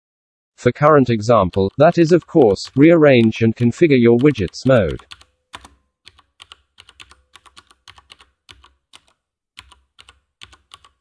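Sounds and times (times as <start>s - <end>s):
typing on a computer keyboard: 1.4s - 11.0s.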